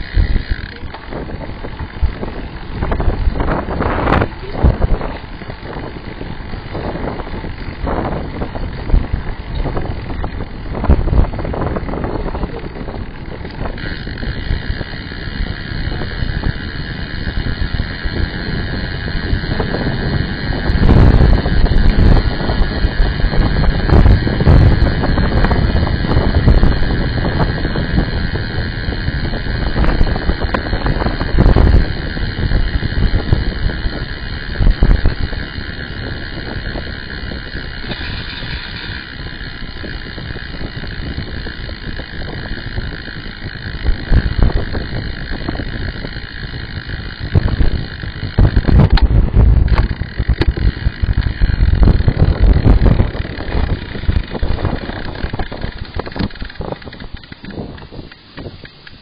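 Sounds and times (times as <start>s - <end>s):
tyre road noise: 0.0s - 59.0s
wind rumbling over microphone: 0.0s - 59.0s.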